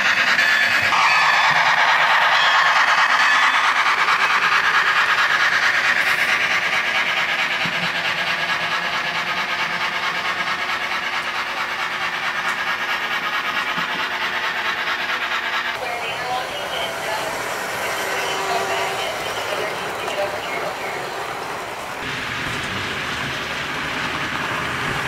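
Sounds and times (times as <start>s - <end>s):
model train wheels rattling: 2.6s - 25.0s.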